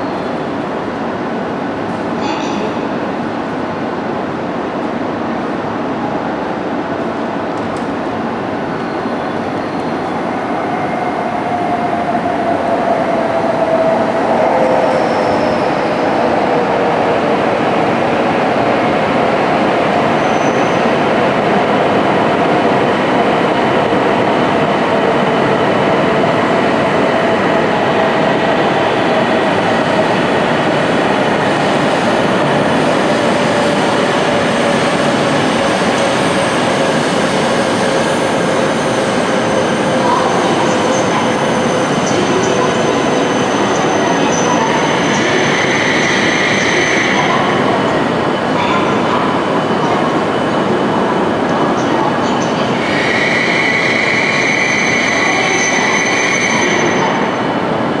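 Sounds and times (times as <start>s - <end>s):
train running noise: 0.0s - 58.0s.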